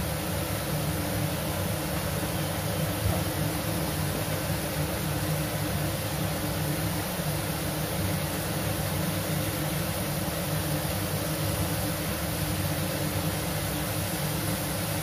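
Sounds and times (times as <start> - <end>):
gas burner hum: 0.0 - 15.0.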